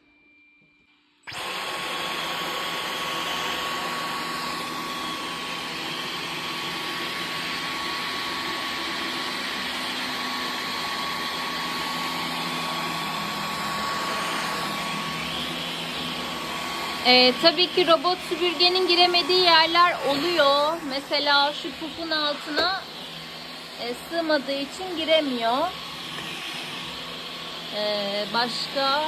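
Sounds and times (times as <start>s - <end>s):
vacuum cleaner running: 1.2s - 29.0s.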